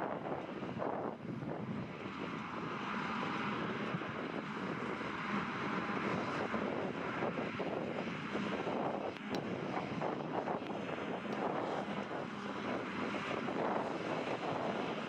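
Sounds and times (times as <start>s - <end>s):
forage harvester drone: 0.0s - 15.0s.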